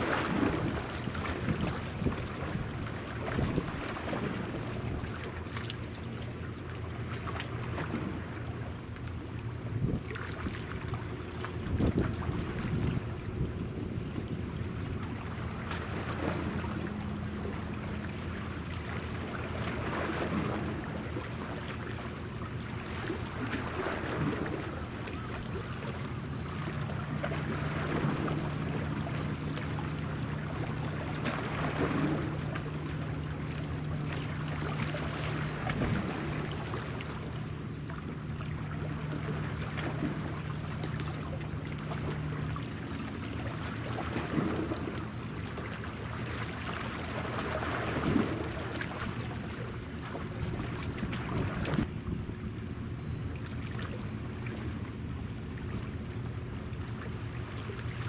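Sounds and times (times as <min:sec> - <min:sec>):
distant ship engine hum: 0:00.0 - 0:58.0
waves on water: 0:00.0 - 0:58.0
wind: 0:00.0 - 0:58.0.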